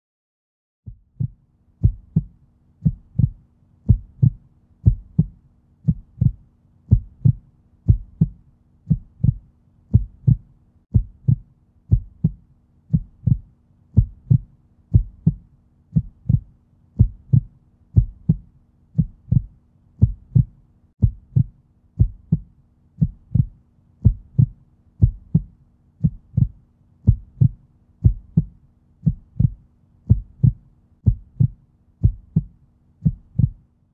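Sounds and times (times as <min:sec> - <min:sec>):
heartbeat thumps: 0:00.9 - 0:33.6.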